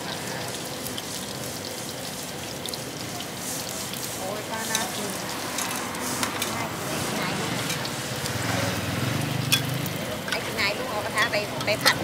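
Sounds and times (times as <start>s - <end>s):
egg sizzling in oil: 0.0s - 12.0s.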